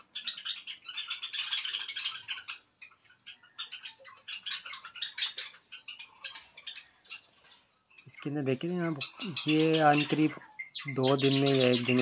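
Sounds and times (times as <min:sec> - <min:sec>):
small birds chattering: 0:00.0 - 0:12.0.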